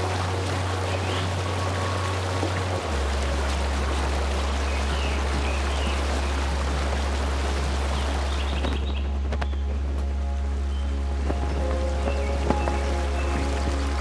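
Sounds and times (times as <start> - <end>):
waterfall rushing into a pool: 0.0 - 9.1, 11.4 - 14.0
loud low drone: 0.0 - 14.0.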